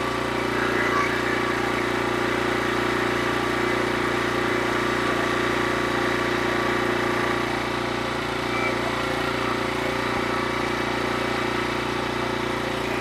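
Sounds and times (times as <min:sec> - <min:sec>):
sawmill engine running: 0:00.0 - 0:13.0.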